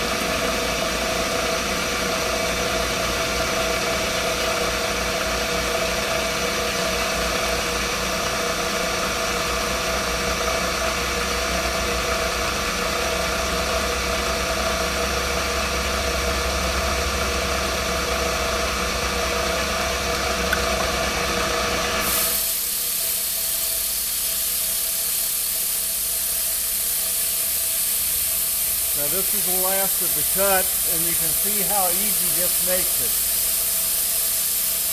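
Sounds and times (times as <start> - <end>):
coolant sprayer air hiss: 0.0 - 20.8, 21.6 - 34.9
milling machine motor hum and whine: 0.0 - 34.9.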